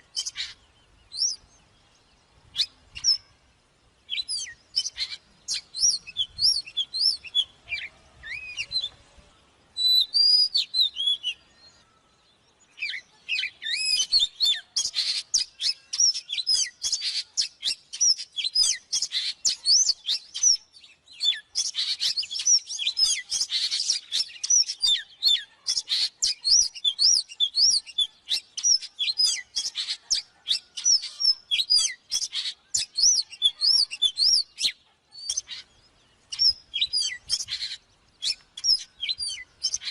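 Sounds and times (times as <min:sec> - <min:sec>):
songbird whistling song: 0:00.0 - 0:03.4, 0:04.0 - 0:39.9.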